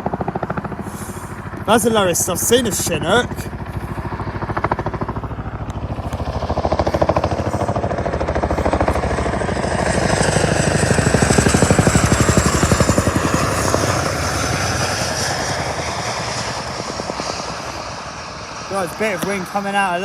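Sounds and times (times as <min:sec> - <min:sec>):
helicopter rotor chop: 0:00.0 - 0:20.0
high turbine whine: 0:00.0 - 0:20.0.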